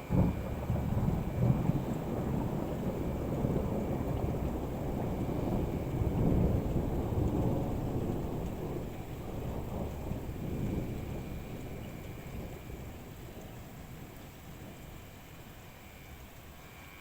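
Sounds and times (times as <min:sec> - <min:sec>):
rolling thunder rumbling: 0:00.0 - 0:15.9.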